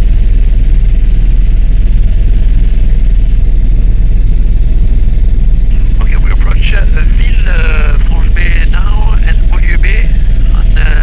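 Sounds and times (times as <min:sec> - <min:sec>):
helicopter drone from inside cabin: 0:00.0 - 0:11.0.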